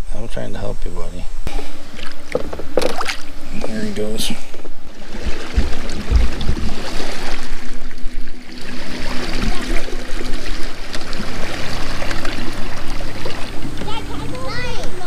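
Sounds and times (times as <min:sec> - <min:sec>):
water trickling and splashing: 0:01.8 - 0:15.0.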